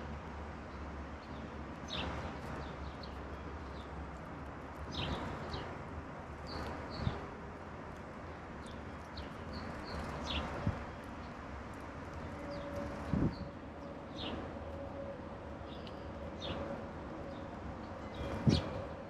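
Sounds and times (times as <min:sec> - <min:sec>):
songbirds chirping: 0:00.6 - 0:05.8, 0:08.3 - 0:19.0.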